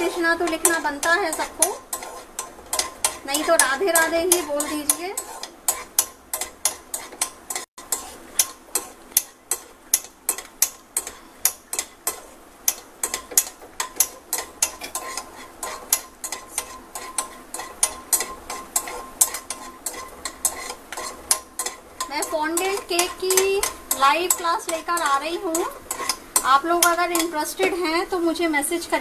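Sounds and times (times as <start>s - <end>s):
utensil scraping a pan: 0.0s - 28.1s
peanuts roasting in a pan: 0.0s - 29.0s.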